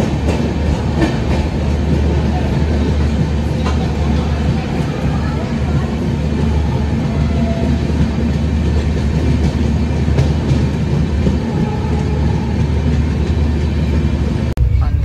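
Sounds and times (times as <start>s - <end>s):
rumble of wheels on rail: 0.0s - 15.0s.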